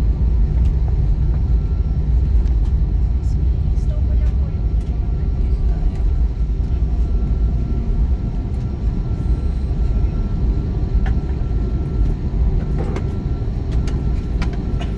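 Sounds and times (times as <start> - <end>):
faint engine whine: 0.0 - 14.9
jet engine cabin rumble: 0.0 - 14.9.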